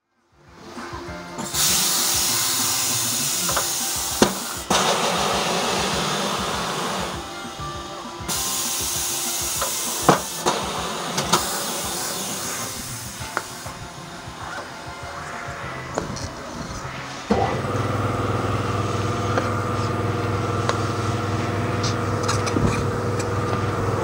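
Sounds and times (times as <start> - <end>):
compressed air hissing: 1.4 - 24.0.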